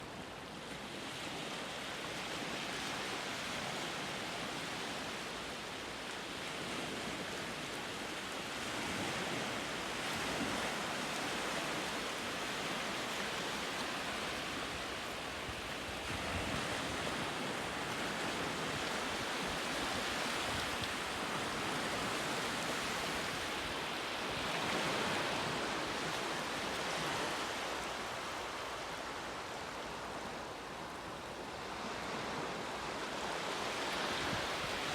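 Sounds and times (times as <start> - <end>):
sea waves washing onto shore: 0.1 - 34.9.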